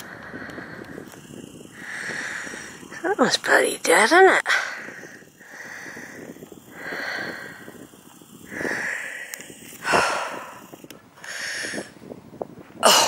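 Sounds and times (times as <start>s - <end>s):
person breathing hard: 0.0s - 3.0s, 4.4s - 12.0s.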